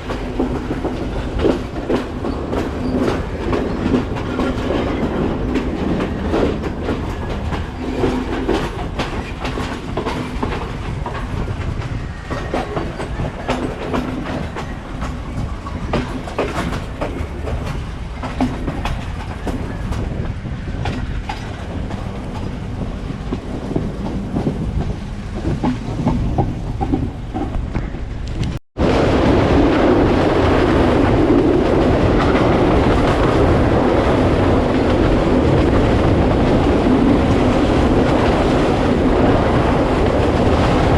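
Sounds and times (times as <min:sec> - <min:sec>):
train rumble: 0:00.0 - 0:40.9
train wheels clattering: 0:00.0 - 0:40.9.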